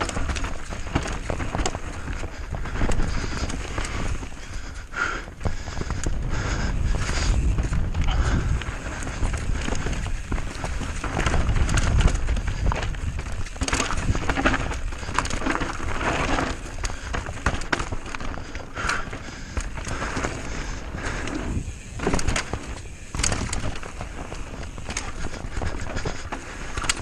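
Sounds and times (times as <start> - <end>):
bike clattering over bumps: 0.0 - 27.0
wind buffeting microphone: 0.0 - 27.0.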